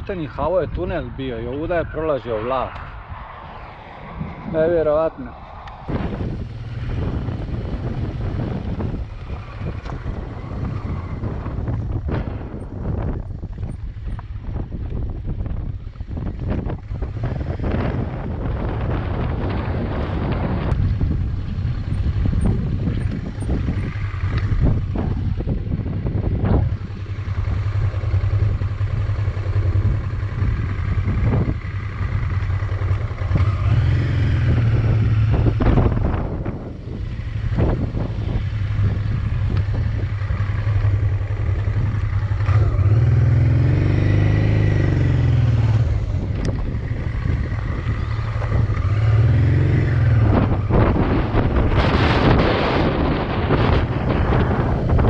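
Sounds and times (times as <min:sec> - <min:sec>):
wind rushing over microphone: 0:00.0 - 0:55.0
motorcycle engine running: 0:02.8 - 0:55.0.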